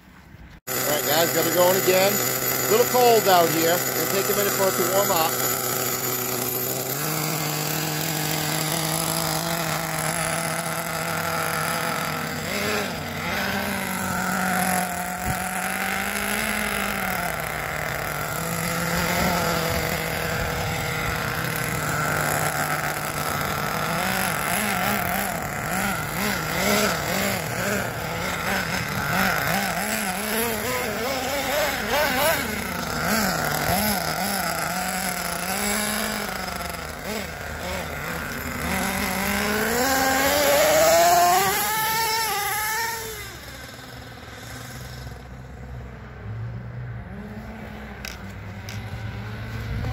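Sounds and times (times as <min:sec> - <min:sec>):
small nitro engine idling: 0:00.2 - 0:46.3, 0:47.1 - 0:49.9.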